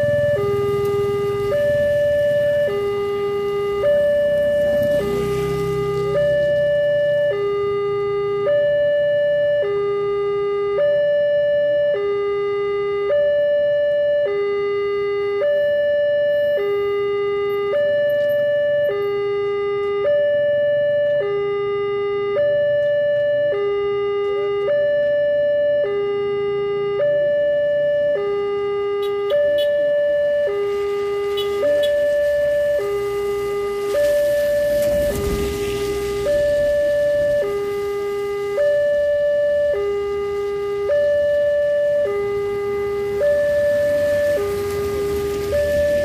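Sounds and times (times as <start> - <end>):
level crossing two-tone alarm: 0.0 - 46.0.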